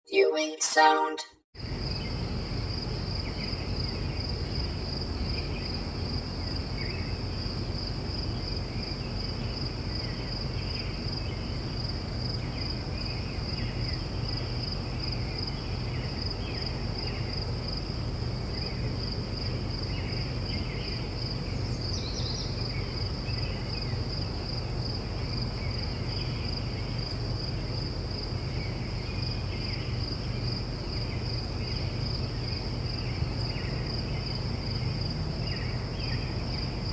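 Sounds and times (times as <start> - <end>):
crickets chirping: 1.6 - 36.9.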